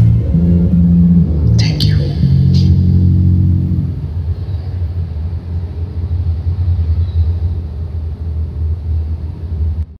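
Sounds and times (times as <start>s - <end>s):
low uneven rumble: 0.0s - 9.9s.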